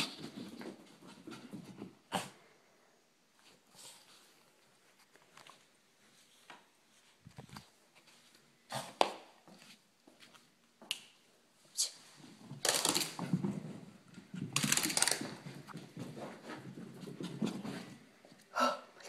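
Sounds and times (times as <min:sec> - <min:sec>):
dog paws running on carpet: 0:00.0 - 0:02.1, 0:03.4 - 0:10.9, 0:12.0 - 0:18.5.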